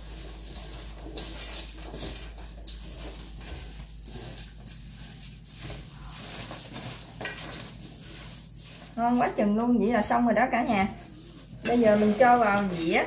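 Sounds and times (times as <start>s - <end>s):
rice flakes rustling in a bowl: 0.0s - 13.0s.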